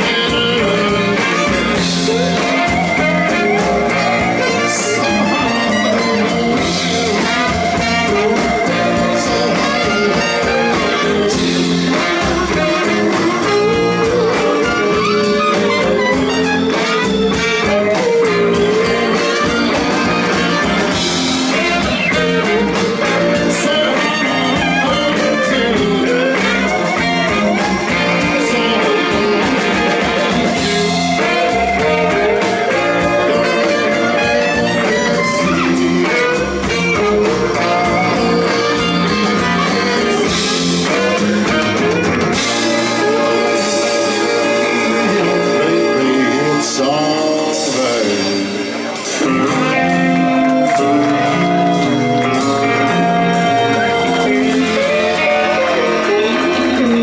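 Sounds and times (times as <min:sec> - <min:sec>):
electric guitar melody: 0:00.0 - 0:57.0
live blues band playing: 0:00.0 - 0:57.0.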